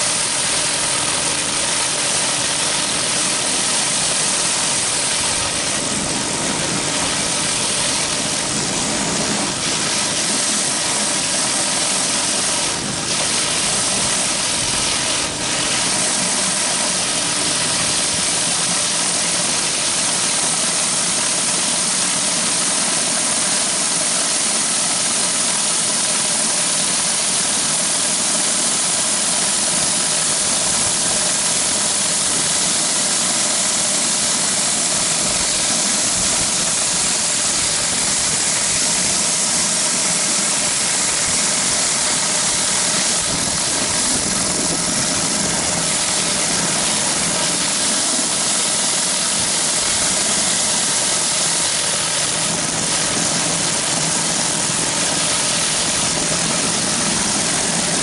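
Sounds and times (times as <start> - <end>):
pressure washer engine running: 0.0 - 58.0
water jets hissing on concrete: 0.0 - 58.0.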